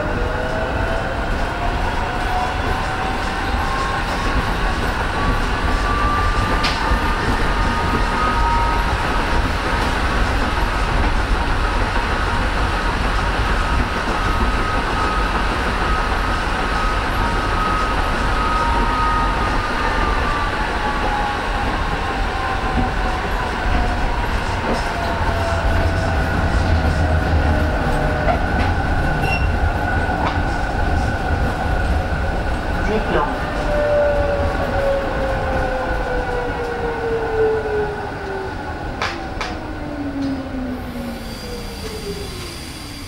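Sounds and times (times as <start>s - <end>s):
tram traction whine: 0.0s - 43.0s
tram wheels rumbling on rail: 0.0s - 43.0s.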